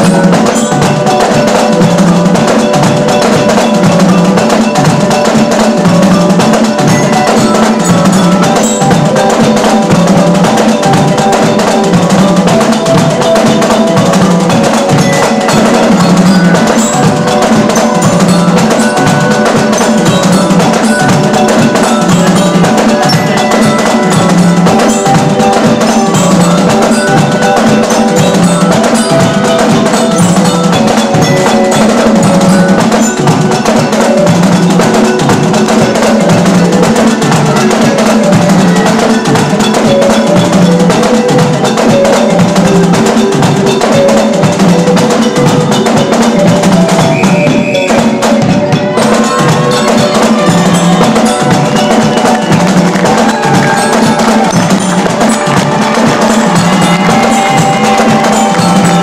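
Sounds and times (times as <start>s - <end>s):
drums playing march beat: 0.0s - 59.0s
glockenspiel notes: 0.0s - 59.0s
marching band music: 0.0s - 59.0s.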